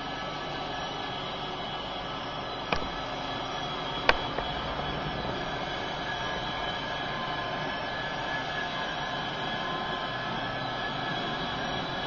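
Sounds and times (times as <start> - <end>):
model locomotive diesel idling: 0.4 - 12.0.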